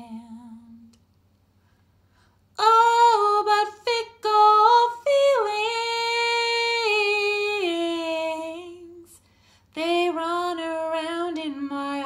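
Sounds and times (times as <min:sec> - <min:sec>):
woman singing unaccompanied: 0:00.0 - 0:01.0, 0:02.6 - 0:09.2, 0:09.8 - 0:12.0.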